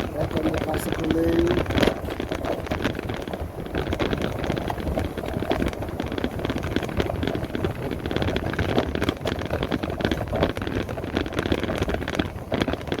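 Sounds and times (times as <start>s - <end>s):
irregular clatter: 0.0s - 13.0s
road noise: 0.0s - 13.0s
wind buffeting microphone: 0.0s - 13.0s.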